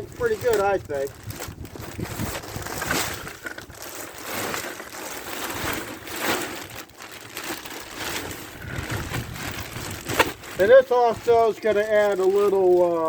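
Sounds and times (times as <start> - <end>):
mulch and plastic bag rustling: 0.0 - 13.0.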